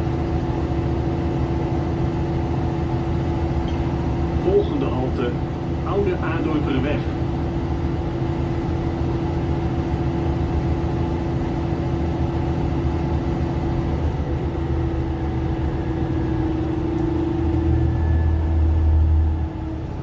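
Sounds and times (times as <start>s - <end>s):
bus engine rumble and whine: 0.0s - 20.0s.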